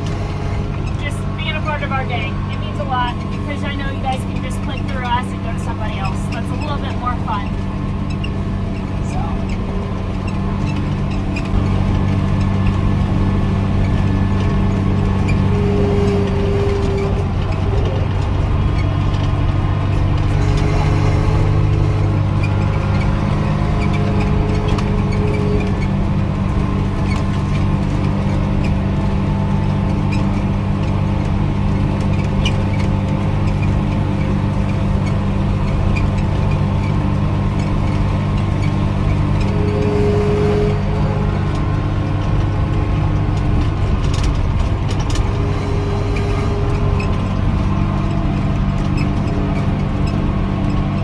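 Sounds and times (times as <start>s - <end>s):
light ticks and rattles: 0.0s - 51.0s
tractor engine running under load: 0.0s - 51.0s.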